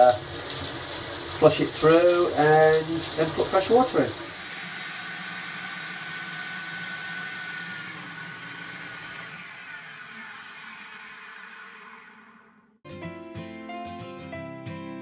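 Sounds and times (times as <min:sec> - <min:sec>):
shop vacuum sucking water: 0:00.0 - 0:12.6.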